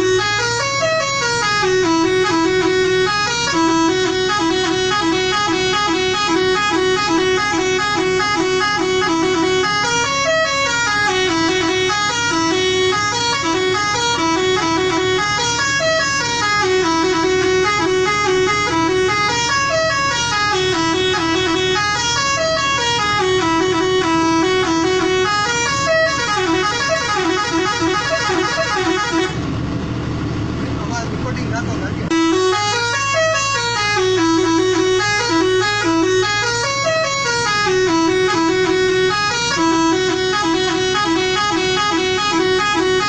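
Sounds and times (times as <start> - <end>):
truck musical horn tune: 0.0 - 29.6, 32.0 - 43.0
truck engine drone: 0.0 - 43.0.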